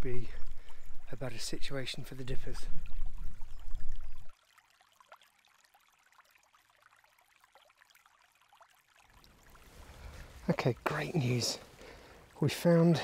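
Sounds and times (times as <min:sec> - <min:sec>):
river water trickling: 0:00.0 - 0:13.0
drips and splashes: 0:00.2 - 0:13.0.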